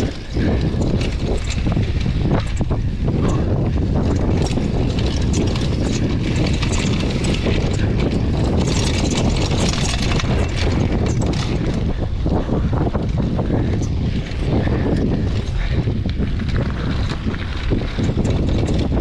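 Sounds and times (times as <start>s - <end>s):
tyres on dirt: 0.0s - 12.6s, 13.2s - 19.0s
bike rattling over bumps: 0.0s - 19.0s
wind on microphone: 0.0s - 19.0s.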